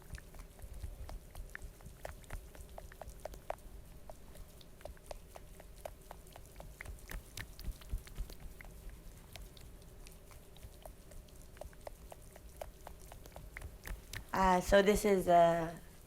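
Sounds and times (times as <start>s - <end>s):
wet clicking and smacking: 0.0s - 14.4s.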